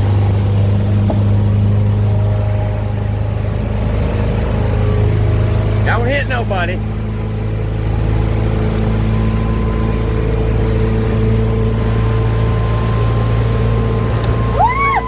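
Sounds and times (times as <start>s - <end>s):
boat engine running: 0.0s - 15.0s
thin steady whine: 0.2s - 15.0s.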